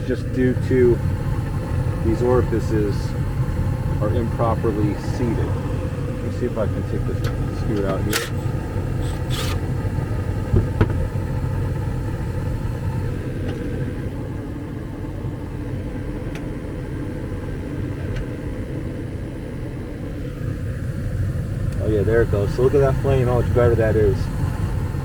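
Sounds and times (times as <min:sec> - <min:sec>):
gas furnace burner rumble: 0:00.0 - 0:25.0.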